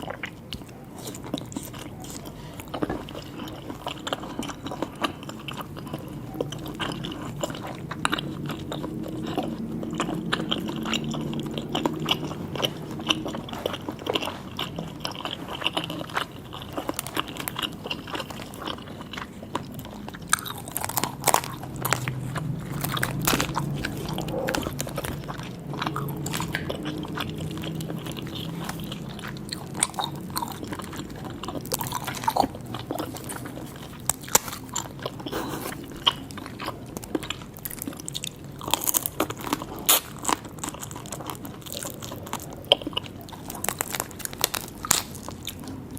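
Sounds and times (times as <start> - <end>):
chewing and biting seafood: 0.0 - 45.9.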